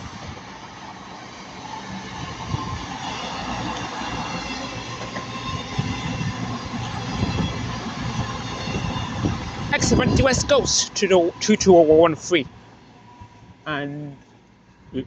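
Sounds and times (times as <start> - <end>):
train wheels rumbling: 0.0 - 13.4
steady high whine: 0.0 - 15.0.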